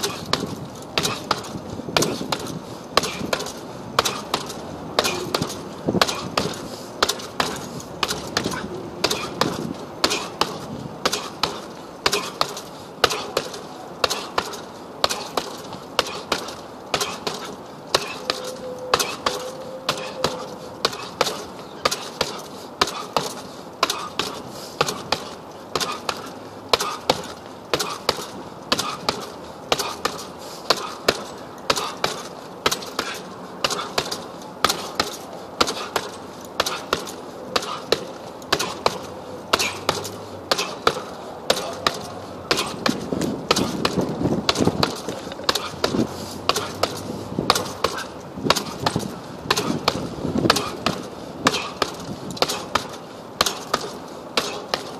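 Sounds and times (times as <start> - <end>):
fists punching heavy bag: 0.0 - 54.9.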